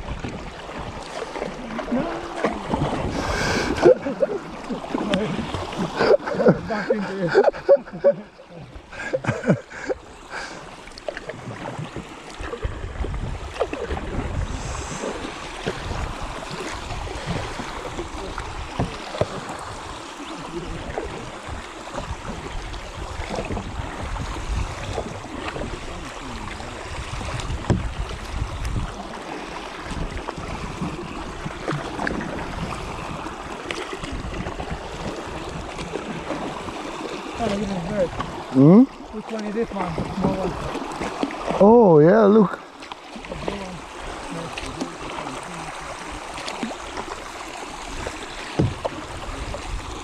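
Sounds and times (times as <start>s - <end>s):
kayak paddles splashing in water: 0.0s - 50.0s.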